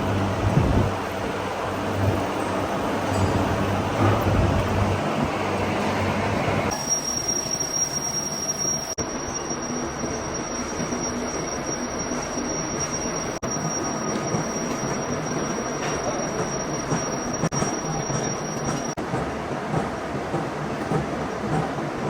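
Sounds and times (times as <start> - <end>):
metalworking machinery whining: 0.0 - 19.2.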